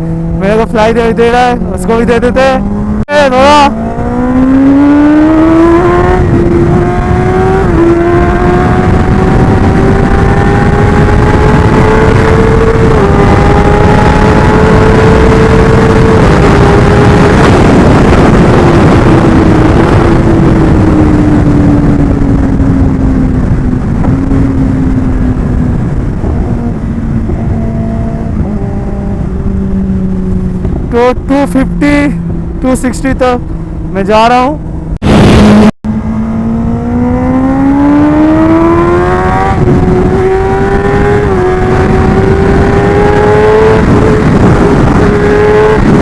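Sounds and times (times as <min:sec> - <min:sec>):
heavy wind noise: 0:00.0 - 0:46.0
motorcycle engine accelerating: 0:00.0 - 0:46.0.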